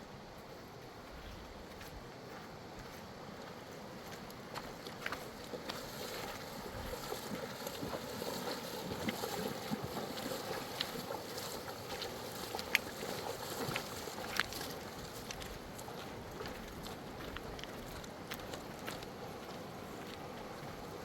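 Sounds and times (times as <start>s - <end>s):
wind: 0.0s - 21.0s
rushing water: 3.5s - 21.0s.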